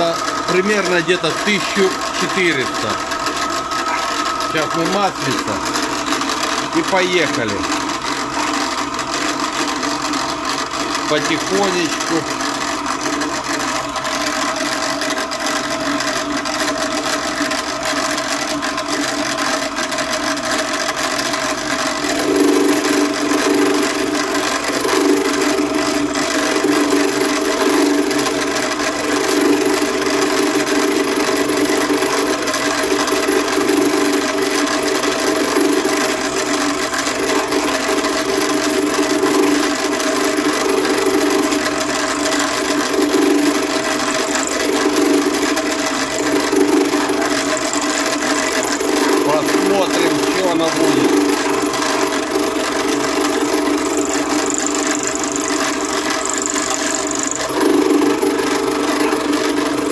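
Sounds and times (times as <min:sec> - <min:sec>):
cutter scraping metal: 0:00.0 - 0:13.3, 0:21.8 - 0:59.9
motor and spindle hum: 0:00.0 - 0:59.9.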